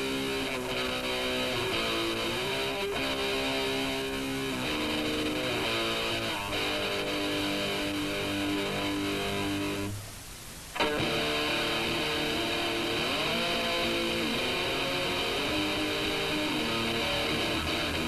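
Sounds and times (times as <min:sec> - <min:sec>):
guitar playing held notes: 0:00.0 - 0:10.0, 0:10.7 - 0:18.0
punk band practising: 0:00.0 - 0:10.0, 0:10.7 - 0:18.0.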